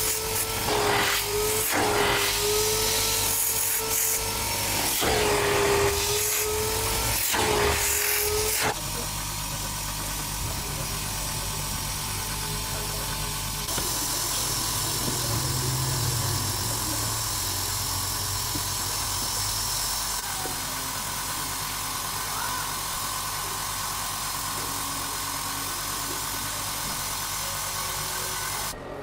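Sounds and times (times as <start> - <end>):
motor running: 0.0 - 29.0.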